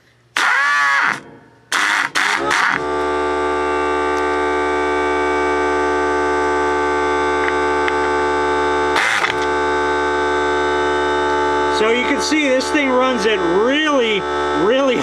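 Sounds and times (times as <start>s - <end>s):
air compressor humming: 0.0s - 15.0s.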